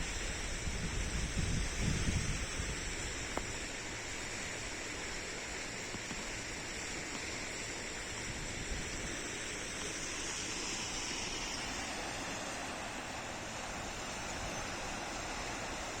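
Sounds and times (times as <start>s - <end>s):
river water rushing: 2.8s - 16.0s.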